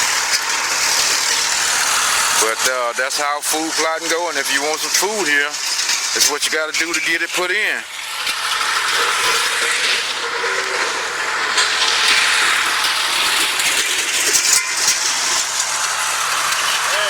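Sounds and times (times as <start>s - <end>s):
loud hissing noise: 0.0s - 17.0s
tractor engine running: 0.0s - 17.0s.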